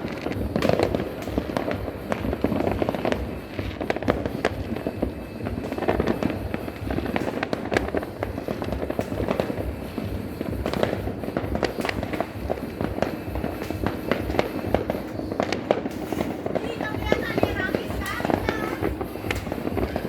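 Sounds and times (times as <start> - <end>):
fireworks and firecrackers: 0.0 - 20.0.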